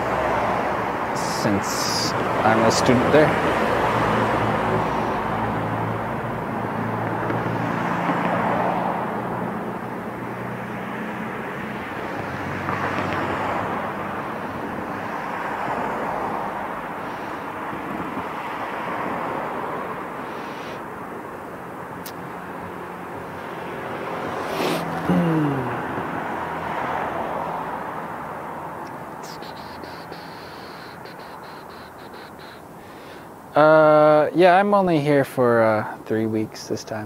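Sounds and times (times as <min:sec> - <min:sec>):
passing vehicles rushing: 0:00.0 - 0:35.2.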